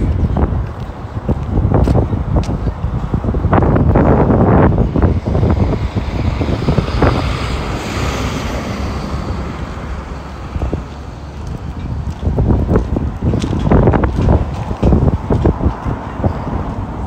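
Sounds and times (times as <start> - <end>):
wind rumbling on microphone: 0.0 - 17.0
motor vehicle passing: 2.9 - 17.0.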